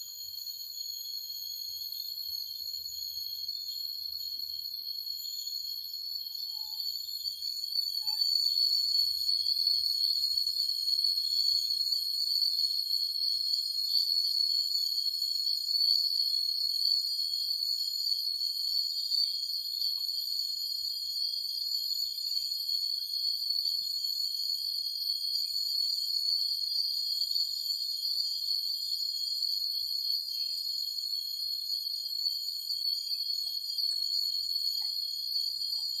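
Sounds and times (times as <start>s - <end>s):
night insects chorus: 0.0s - 36.0s.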